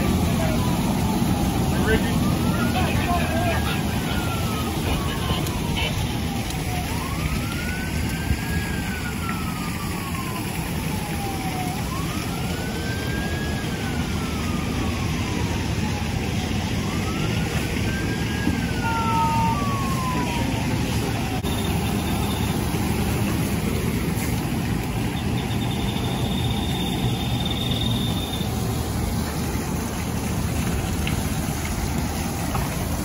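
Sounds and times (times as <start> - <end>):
distant siren wailing: 0.0 - 33.0
fire engine running: 0.0 - 33.0
hose spraying water: 0.0 - 33.0.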